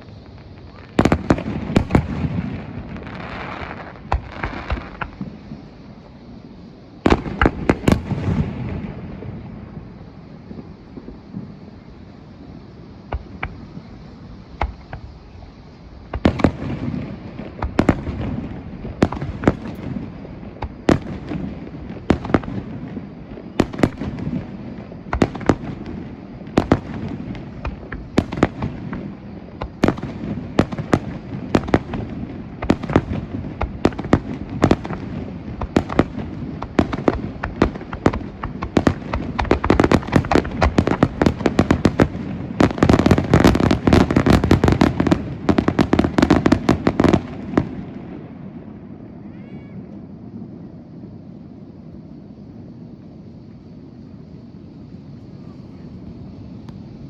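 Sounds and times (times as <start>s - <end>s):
fireworks bangs: 0.0s - 52.2s.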